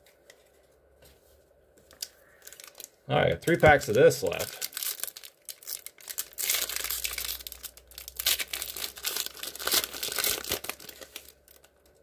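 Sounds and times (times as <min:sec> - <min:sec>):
foil wrapper crinkling and tearing: 0:01.9 - 0:12.0.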